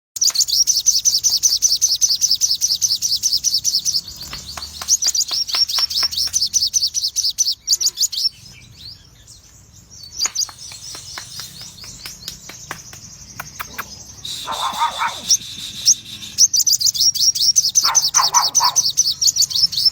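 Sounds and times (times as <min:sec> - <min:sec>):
songbird high chirps: 0:00.2 - 0:19.9.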